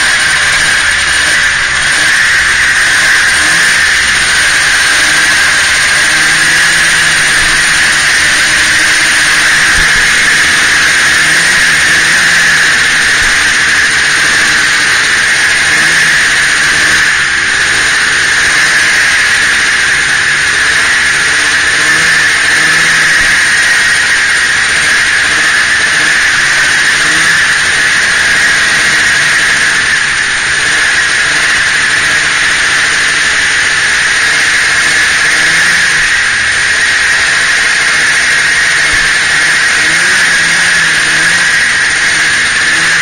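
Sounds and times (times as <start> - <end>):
high whine: 0.0 - 43.0
snowmobile engine running: 0.0 - 43.0
wind and track noise: 0.0 - 43.0.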